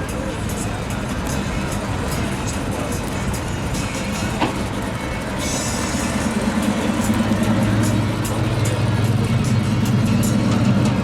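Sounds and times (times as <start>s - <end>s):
car engine running: 0.5s - 11.0s.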